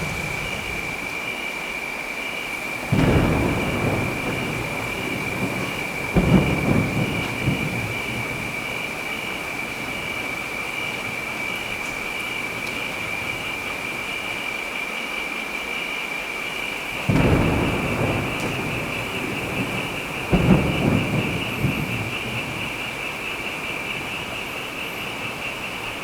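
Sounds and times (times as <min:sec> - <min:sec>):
thunder rolling: 0:00.0 - 0:01.4, 0:02.7 - 0:14.4, 0:17.0 - 0:26.0
steady rain falling: 0:00.0 - 0:26.0.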